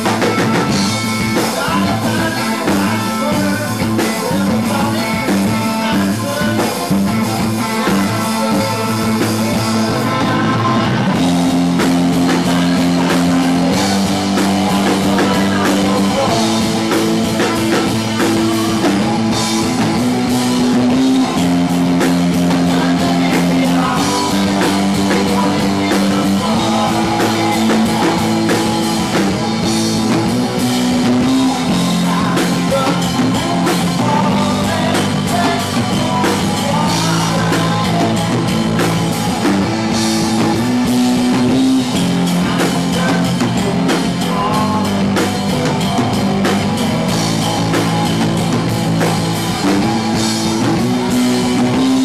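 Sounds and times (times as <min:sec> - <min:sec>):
person singing: 0:00.0 - 0:52.0
steady drum beat: 0:00.0 - 0:52.0.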